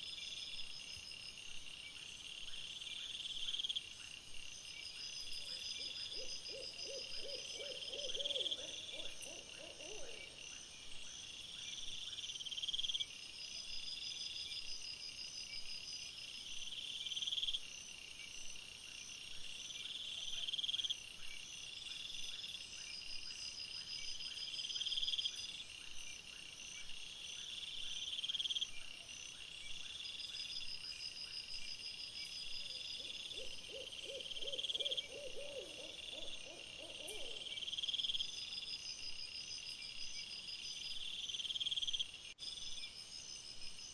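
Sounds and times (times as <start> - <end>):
insects chirring: 0.0 - 43.9.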